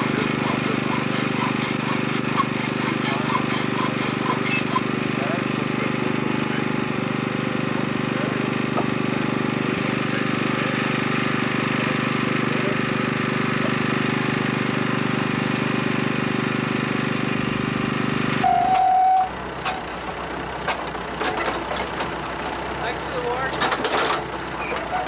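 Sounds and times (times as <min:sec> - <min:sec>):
machinery engine running: 0:00.0 - 0:25.0.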